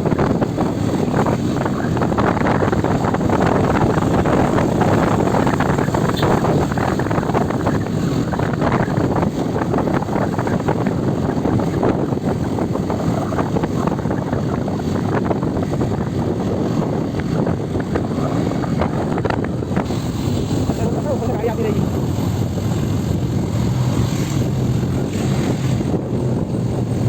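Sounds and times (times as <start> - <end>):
motorcycle engine: 0.0 - 27.0
road noise: 0.0 - 27.0
wind buffeting microphone: 0.0 - 27.0.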